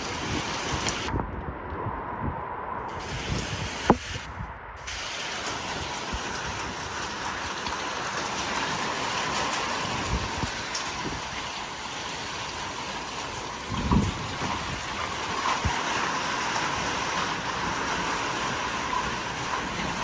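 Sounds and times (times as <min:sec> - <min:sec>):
heavy rain: 0:00.0 - 0:01.1, 0:02.7 - 0:20.0
strong wind: 0:00.0 - 0:20.0.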